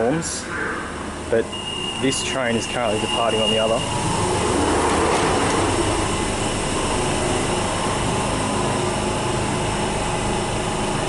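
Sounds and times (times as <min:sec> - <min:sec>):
mechanical drone on underground platform: 0:00.0 - 0:11.0
train standing at platform: 0:00.0 - 0:11.0.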